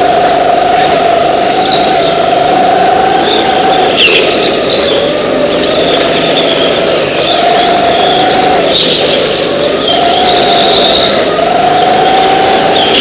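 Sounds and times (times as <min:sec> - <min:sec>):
go-kart engine at high revs: 0:00.0 - 0:13.0.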